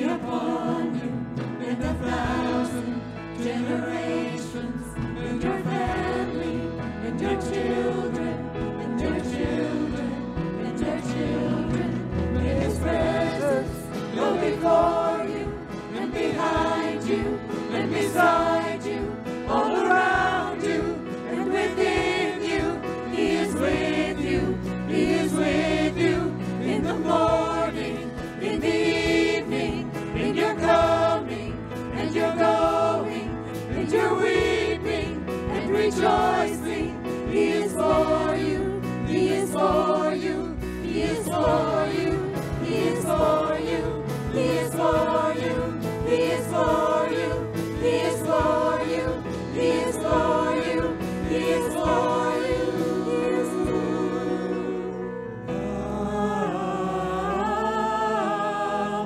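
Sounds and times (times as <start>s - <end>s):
drums: 0.0s - 55.0s
guitar: 0.0s - 56.6s
group singing worship song: 0.0s - 59.0s
keyboard: 0.0s - 59.0s.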